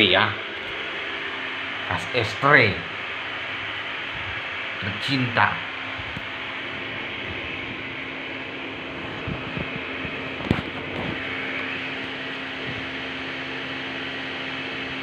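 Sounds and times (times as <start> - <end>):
fan-like noise with low hum: 0.0 - 15.0.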